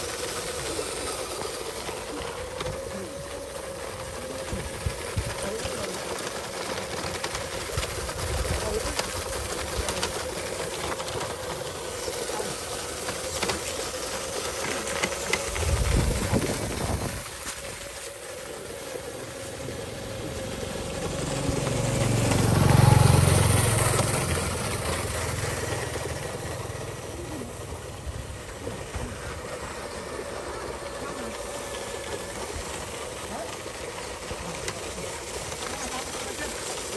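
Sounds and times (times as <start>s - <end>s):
model truck motor whining: 0.0s - 36.9s.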